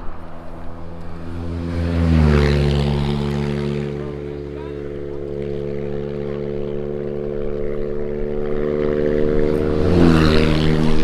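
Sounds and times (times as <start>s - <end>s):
airboat engine drone: 0.0s - 11.0s.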